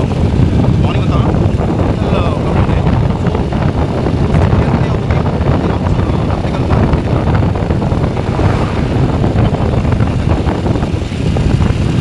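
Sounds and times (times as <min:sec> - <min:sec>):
moving vehicle drone: 0:00.0 - 0:12.0
wind buffeting microphone: 0:00.0 - 0:12.0.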